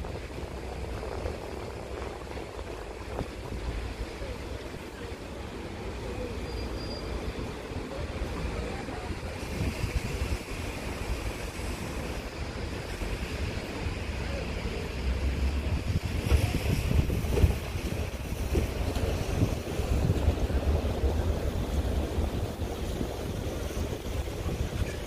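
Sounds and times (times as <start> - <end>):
wind buffeting microphone: 0.0 - 5.0, 7.4 - 25.0
steady outdoor hiss: 0.0 - 25.0.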